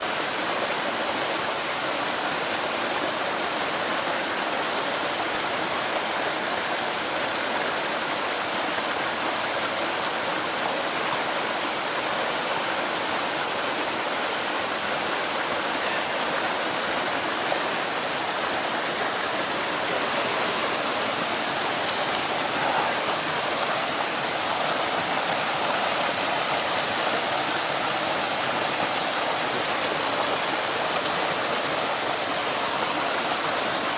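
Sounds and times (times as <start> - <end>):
stream water flowing over rocks: 0.0 - 33.9.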